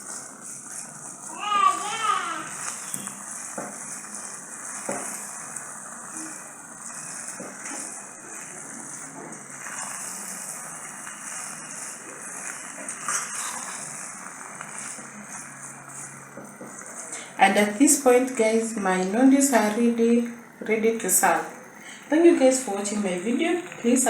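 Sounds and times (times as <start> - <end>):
noodles sizzling in a pan: 0.0 - 24.0.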